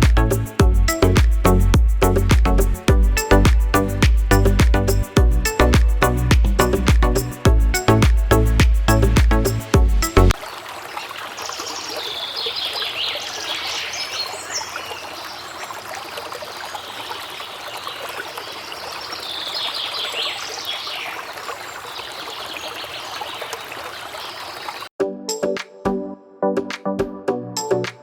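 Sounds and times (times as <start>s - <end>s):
water trickling and splashing: 0.0s - 24.9s.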